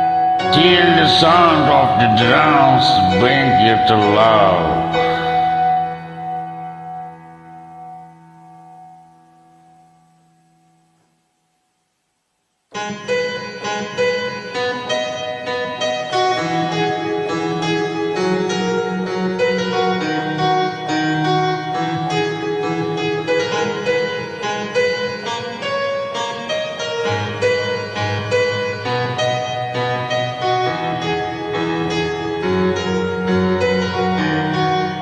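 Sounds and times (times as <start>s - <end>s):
piano music: 0.0s - 10.6s, 12.7s - 35.0s.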